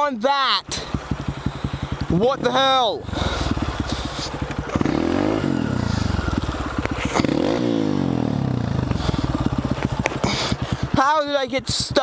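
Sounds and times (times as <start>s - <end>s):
dirt bike engine revving: 0.6s - 12.0s.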